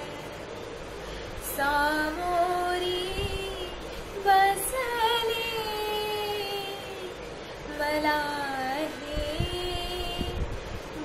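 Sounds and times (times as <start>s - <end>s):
woman singing devotional song: 1.4s - 10.5s.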